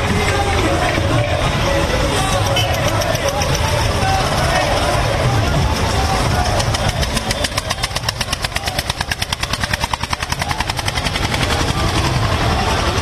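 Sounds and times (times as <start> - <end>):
crowd rumble: 0.0 - 13.0
diesel tractor engine chugging: 0.0 - 13.0.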